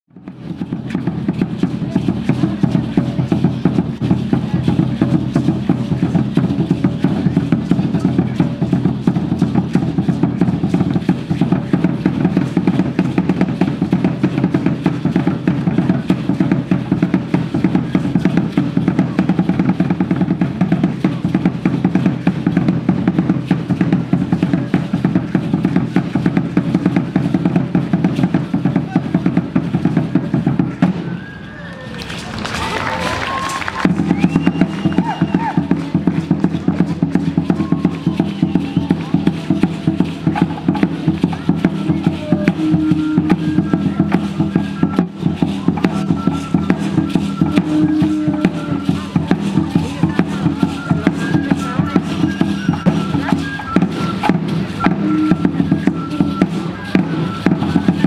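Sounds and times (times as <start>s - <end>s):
fast drumming on large drum: 0.1s - 31.1s, 33.8s - 58.0s.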